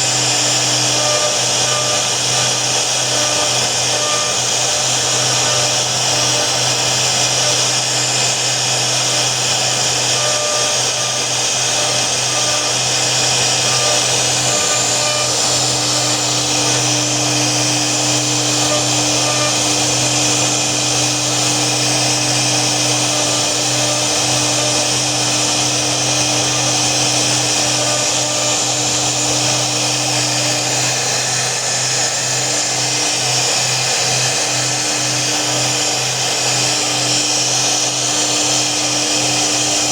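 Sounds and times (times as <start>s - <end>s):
router spindle carving wood: 0.0s - 39.9s.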